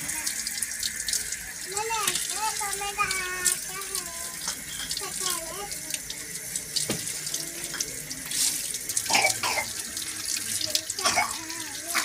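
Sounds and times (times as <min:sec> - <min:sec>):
tap water splashing: 0:00.0 - 0:12.0.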